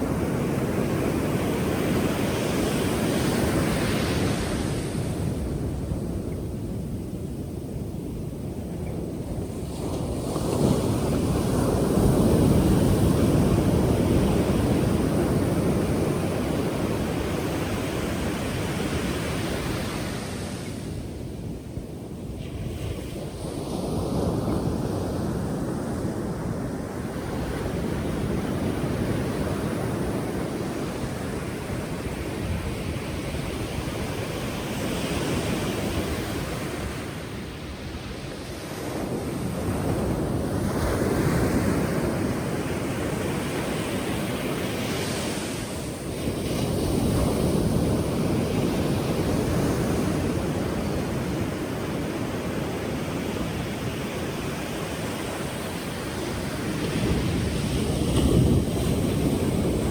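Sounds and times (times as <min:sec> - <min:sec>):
waves breaking and washing in: 0:00.0 - 0:59.9
wind on microphone: 0:00.0 - 0:59.9.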